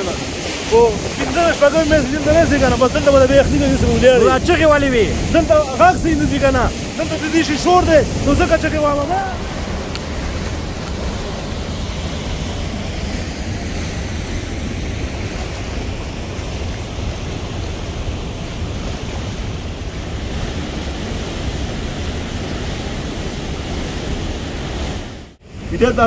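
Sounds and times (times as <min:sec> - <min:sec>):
water rushing down spillway: 0:00.0 - 0:26.0.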